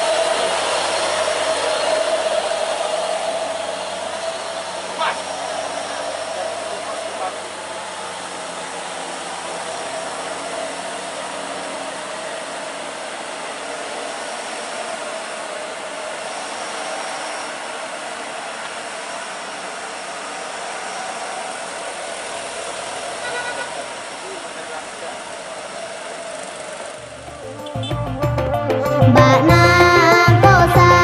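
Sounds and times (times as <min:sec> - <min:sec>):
dump truck diesel engine climbing: 0:00.0 - 0:31.0.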